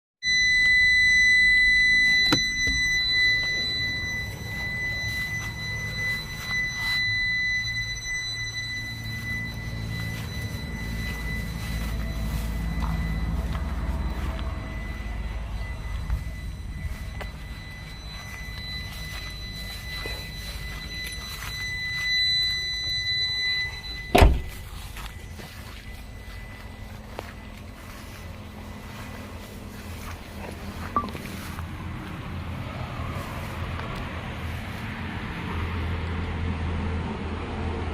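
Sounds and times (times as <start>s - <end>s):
high-pitched electronic beep: 0.2s - 34.2s
high-pitched tone: 0.2s - 36.0s
low rumble: 1.0s - 34.4s.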